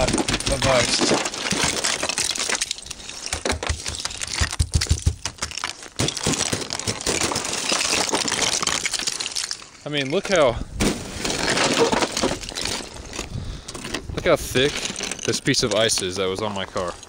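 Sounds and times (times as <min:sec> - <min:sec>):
ice crunching and cracking: 0:00.0 - 0:17.0.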